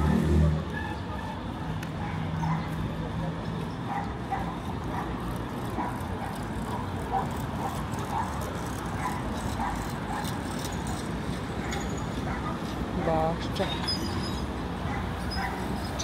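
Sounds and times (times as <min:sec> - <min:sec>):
low rumble of city traffic: 0:00.0 - 0:16.0.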